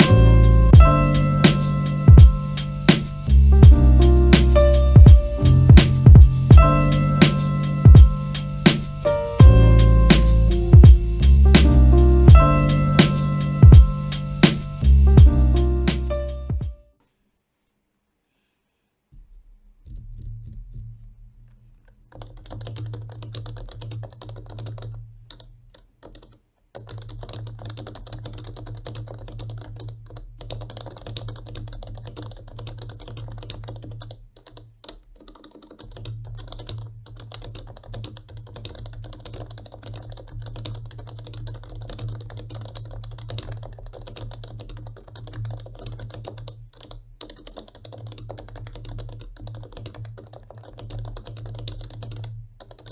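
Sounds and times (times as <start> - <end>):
fast keyboard typing: 0.0 - 16.7, 22.1 - 52.9.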